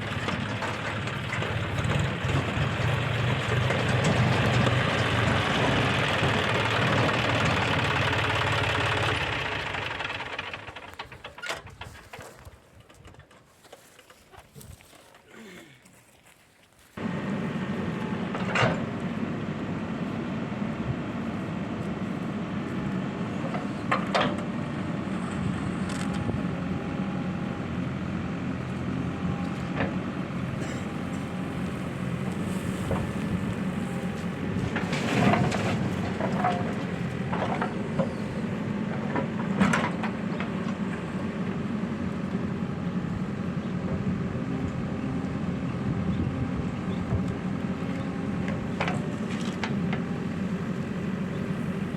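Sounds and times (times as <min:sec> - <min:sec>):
diesel engine running under load: 0:00.0 - 0:12.5, 0:17.0 - 0:51.9.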